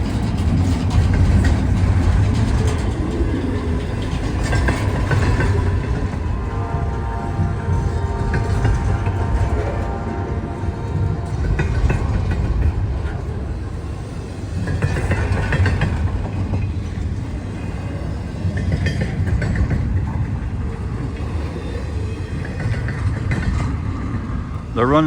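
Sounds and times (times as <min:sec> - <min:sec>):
train wheels rumbling on rail: 0:00.0 - 0:25.0
wheels clacking over rail joints: 0:00.0 - 0:25.0.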